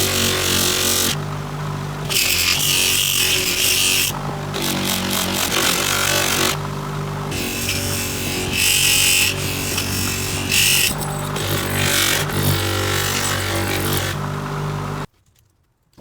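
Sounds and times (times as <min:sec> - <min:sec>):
power tool motor running: 0:00.0 - 0:15.1.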